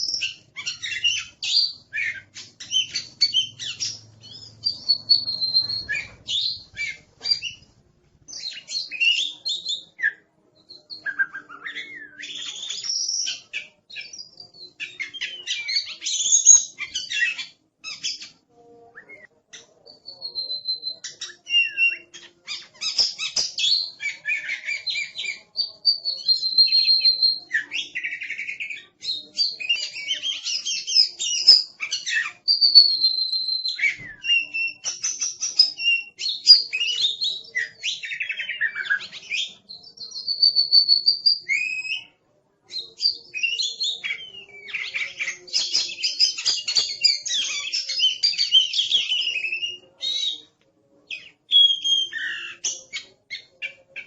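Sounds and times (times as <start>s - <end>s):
songbird chirps and whistles: 0.0s - 54.0s.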